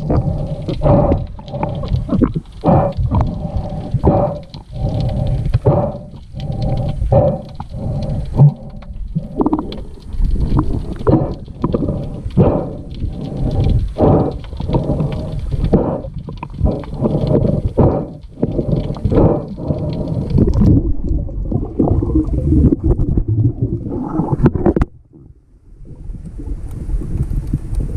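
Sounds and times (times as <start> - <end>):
muffled underwater rumbling and knocking: 0.0 - 27.9.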